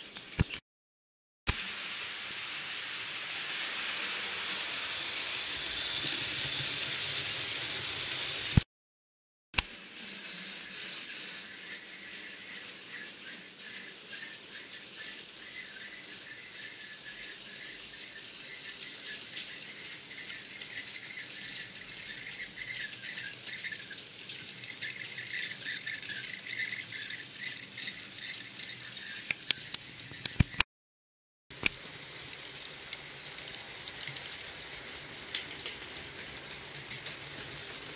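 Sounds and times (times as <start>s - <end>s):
model train wheels clicking on rails: 1.5s - 8.6s, 9.6s - 30.6s, 31.6s - 37.9s.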